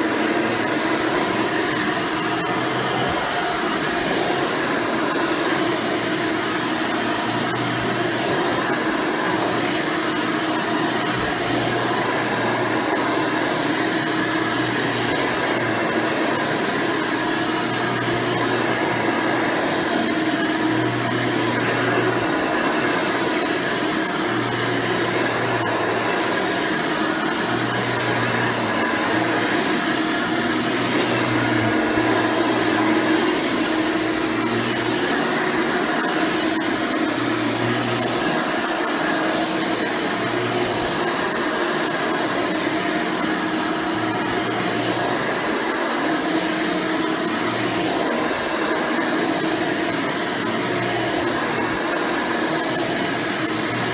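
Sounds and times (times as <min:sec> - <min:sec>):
upright vacuum cleaner running: 0:00.0 - 0:53.9.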